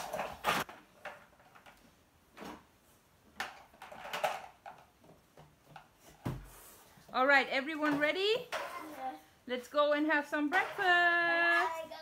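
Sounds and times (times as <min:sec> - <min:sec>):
plastic toy trucks on wooden floor: 0:00.0 - 0:09.3, 0:10.3 - 0:12.0.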